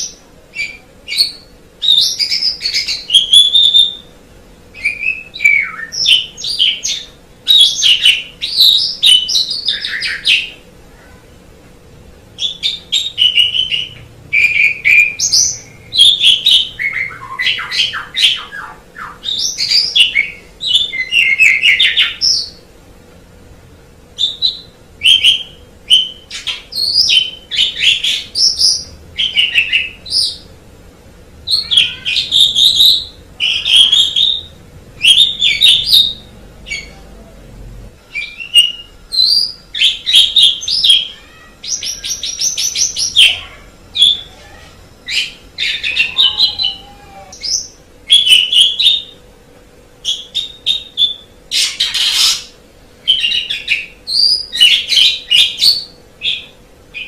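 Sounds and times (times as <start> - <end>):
starling singing: 0.0 - 10.7, 12.4 - 22.7, 24.1 - 30.6, 31.2 - 37.4, 38.0 - 49.2, 50.0 - 57.0.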